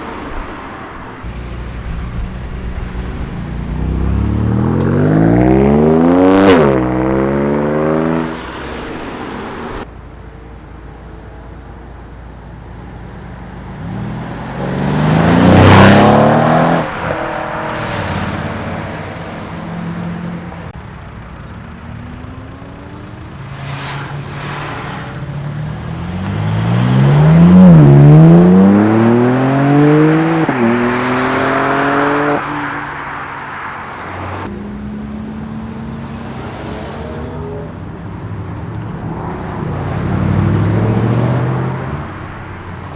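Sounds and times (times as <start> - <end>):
quieter traffic: 0.0 - 42.9
cars accelerating past: 1.2 - 9.9, 13.7 - 20.8, 21.9 - 42.9.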